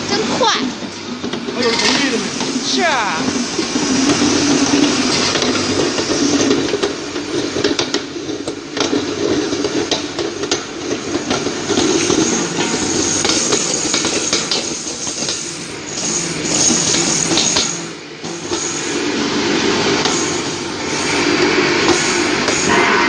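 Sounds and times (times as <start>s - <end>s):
grinding machine drone: 0.0s - 23.0s.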